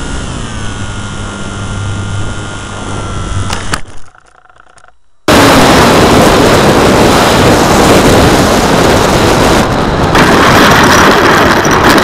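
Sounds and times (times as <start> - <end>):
airflow buffeting microphone: 0.0 - 3.9, 5.3 - 12.0.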